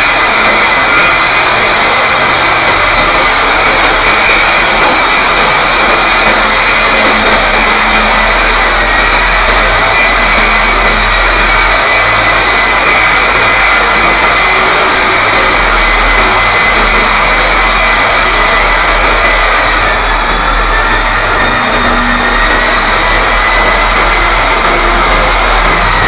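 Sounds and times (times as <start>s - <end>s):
core drill grinding into masonry: 0.0s - 26.0s.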